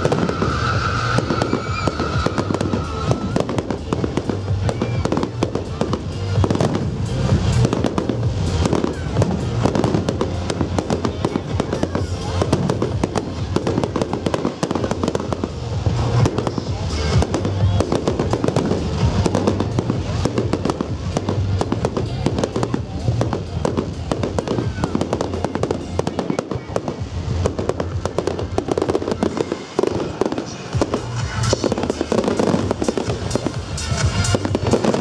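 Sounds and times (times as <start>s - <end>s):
fireworks bangs and crackles: 0.0s - 35.0s
loud music with bass beat: 0.0s - 35.0s.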